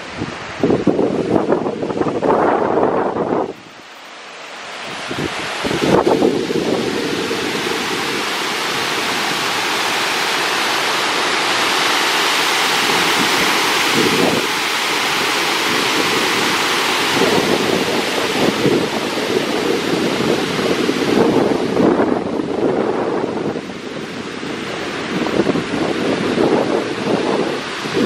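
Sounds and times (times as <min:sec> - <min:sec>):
water rushing over spillway: 0:00.0 - 0:28.0.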